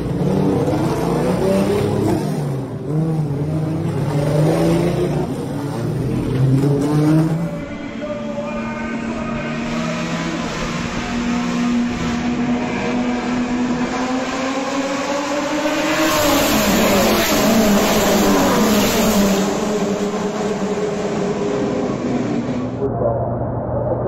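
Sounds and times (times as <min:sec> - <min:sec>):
race cars passing at full throttle: 0:00.0 - 0:24.0.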